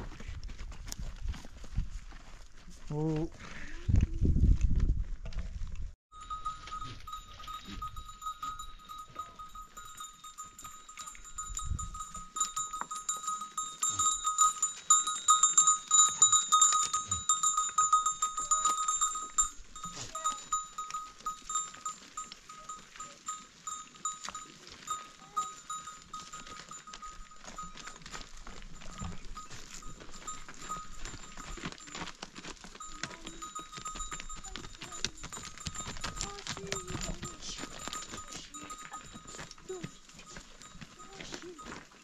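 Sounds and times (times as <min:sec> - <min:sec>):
goat bells jangling: 0:06.1 - 0:42.0.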